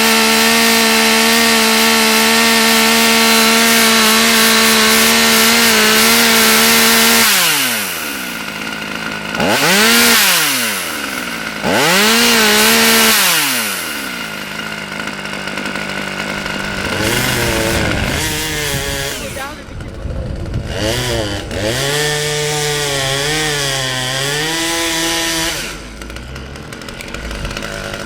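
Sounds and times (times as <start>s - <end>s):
chainsaw revving and idling: 0.0s - 28.0s.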